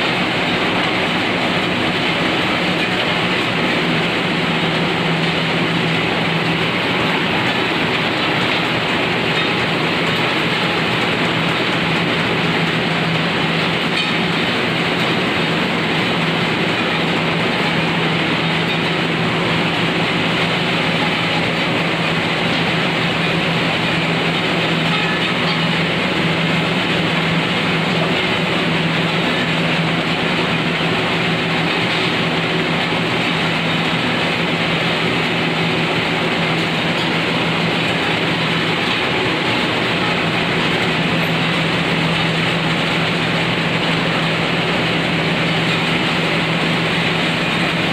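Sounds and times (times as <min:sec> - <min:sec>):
grinder machine drone: 0:00.0 - 0:47.9.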